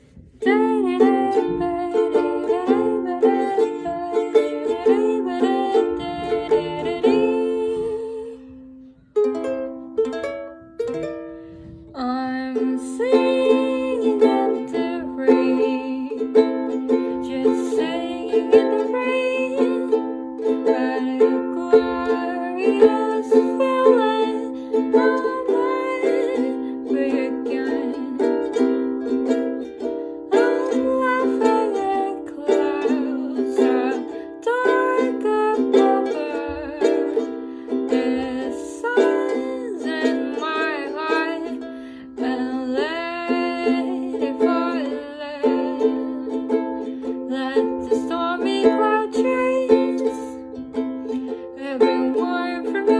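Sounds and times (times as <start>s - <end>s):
plucked string instrument melody: 0.0s - 52.9s.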